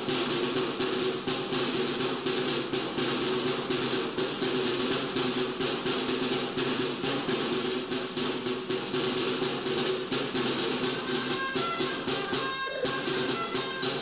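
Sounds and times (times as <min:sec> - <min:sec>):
shawms high reedy notes: 0:00.0 - 0:14.0
side drums rolling rhythm: 0:00.0 - 0:14.0.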